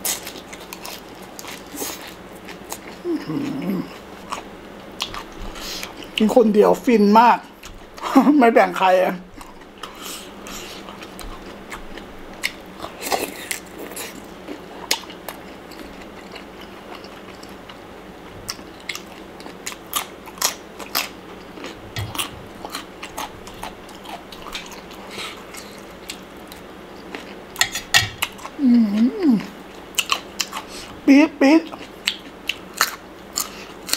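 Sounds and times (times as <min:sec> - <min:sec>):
person chewing: 0:00.0 - 0:06.3, 0:09.3 - 0:31.0, 0:31.7 - 0:33.9.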